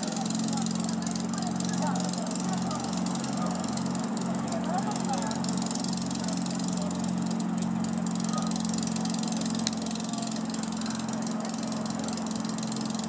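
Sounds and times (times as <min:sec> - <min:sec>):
electric locomotive humming: 0:00.0 - 0:13.0.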